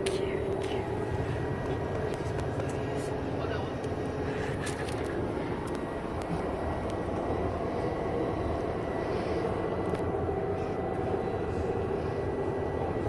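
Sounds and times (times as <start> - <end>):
bus engine and road noise: 0.0 - 13.0
faint high whine: 0.0 - 13.0.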